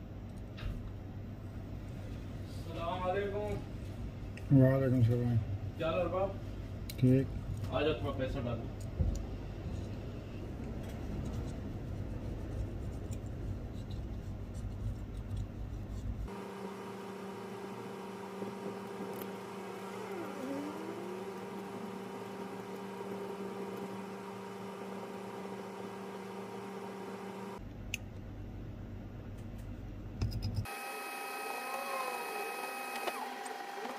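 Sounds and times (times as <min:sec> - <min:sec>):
machine whir and hum: 0:05.4 - 0:33.9.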